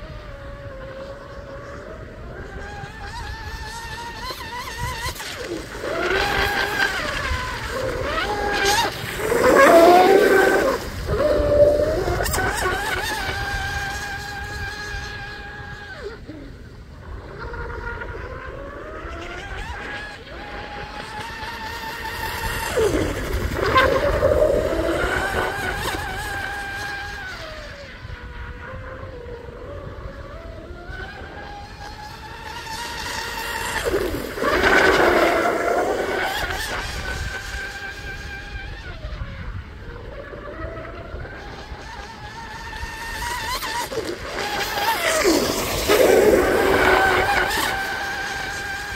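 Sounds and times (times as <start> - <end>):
high-pitched electric motor whine: 0.0 - 48.9.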